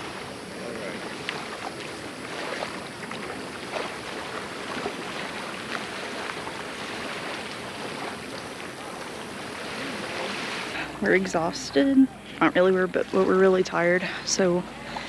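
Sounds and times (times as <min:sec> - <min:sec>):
moving water: 0:00.0 - 0:15.0.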